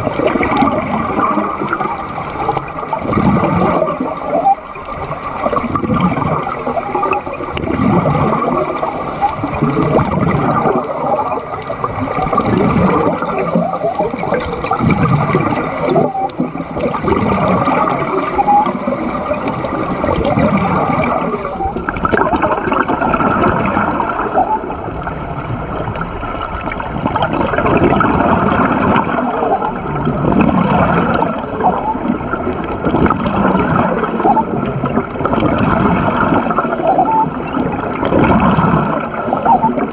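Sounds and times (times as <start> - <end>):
air bubbling underwater: 0.0 - 39.9.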